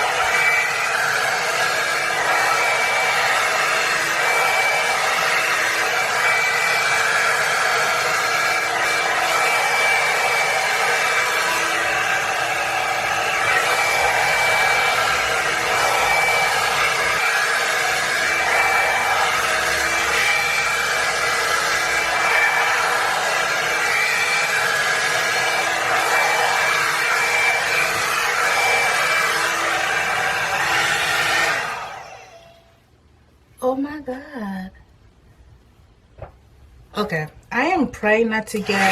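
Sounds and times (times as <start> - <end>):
hair dryer blowing air: 0.0 - 32.7, 38.5 - 38.9
fan whine: 0.0 - 34.5, 35.1 - 38.9.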